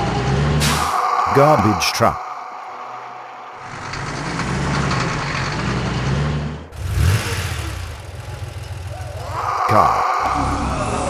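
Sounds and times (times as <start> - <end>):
engine rumble and growl: 0.0 - 2.2, 3.5 - 11.0
truck engine revving: 0.0 - 2.2, 3.0 - 11.0.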